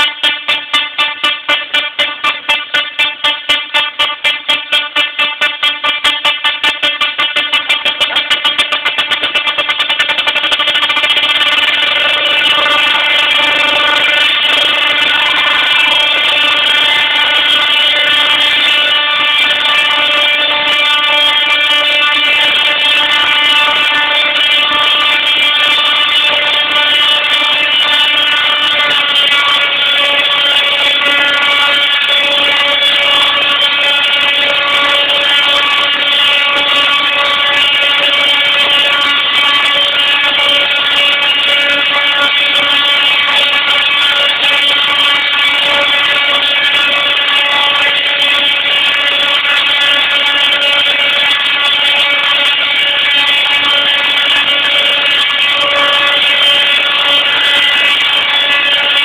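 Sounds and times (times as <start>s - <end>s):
tesla coil buzzing: 0.0s - 59.0s.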